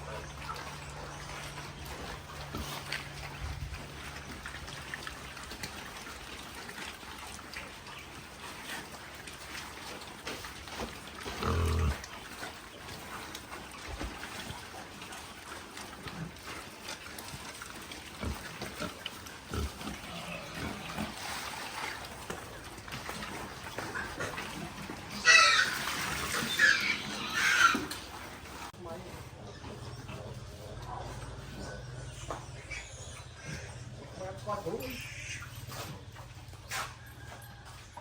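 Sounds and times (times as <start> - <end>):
pigs grunting: 0.0 - 36.9.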